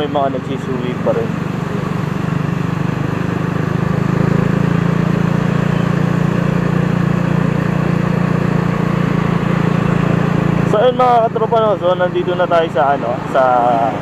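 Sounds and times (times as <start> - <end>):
motorcycle engine droning: 0.0 - 14.0
wind and road noise: 0.0 - 14.0.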